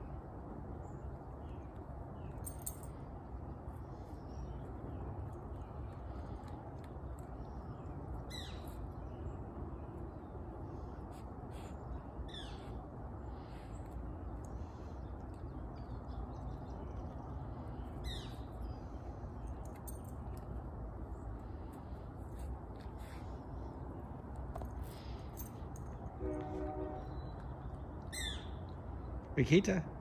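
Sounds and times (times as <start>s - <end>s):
low outdoor background rumble: 0.0s - 30.0s.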